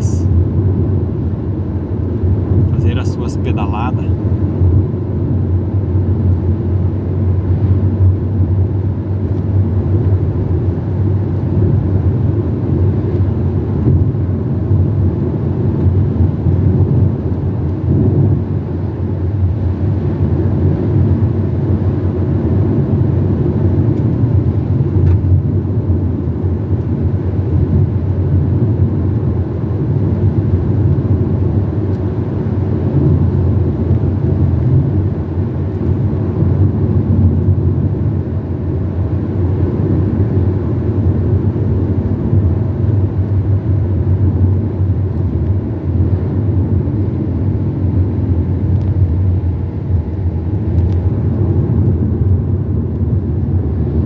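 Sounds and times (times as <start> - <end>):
car driving heard from inside: 0.0 - 54.0.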